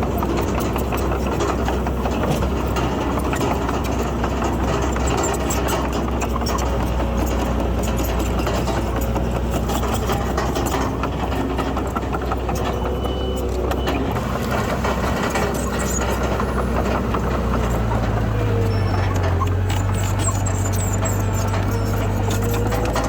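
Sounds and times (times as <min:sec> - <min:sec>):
clanks and rattles: 0:00.0 - 0:23.0
diesel engine running: 0:00.0 - 0:23.0.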